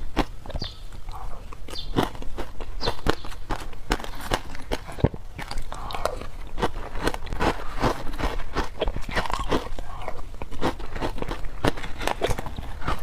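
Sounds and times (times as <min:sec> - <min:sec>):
crunching ice between teeth: 0:00.0 - 0:13.0.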